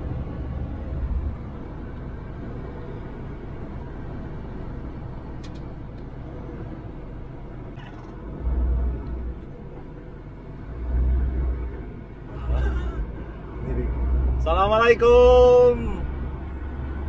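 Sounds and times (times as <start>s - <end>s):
crane engine and road rumble: 0.0s - 17.0s.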